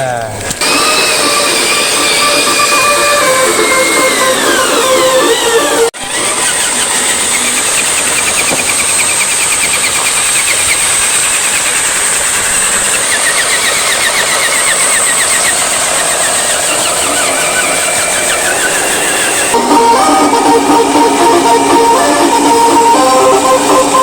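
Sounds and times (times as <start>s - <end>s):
fast even rattling: 0.0s - 19.6s
high-pitched whine: 0.0s - 24.0s
vehicle motor running: 0.0s - 24.0s.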